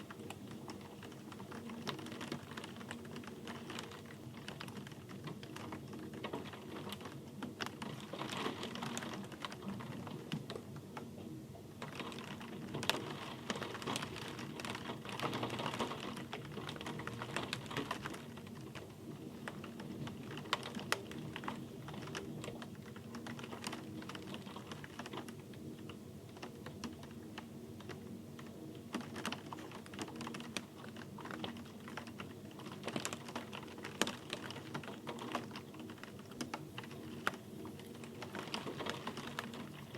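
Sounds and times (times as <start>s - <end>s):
raindrops tapping: 0.0s - 11.1s, 11.8s - 39.9s
steady rain hiss: 0.0s - 39.9s.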